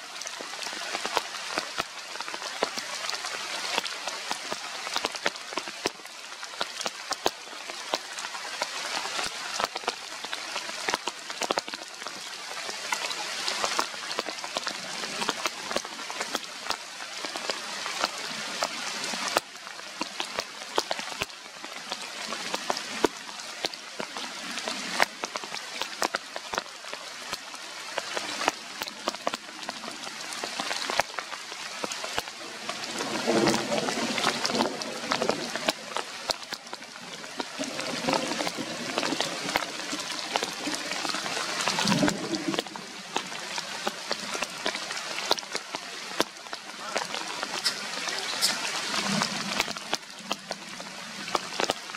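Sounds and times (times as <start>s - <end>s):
rain falling on leaves: 0.0s - 51.9s.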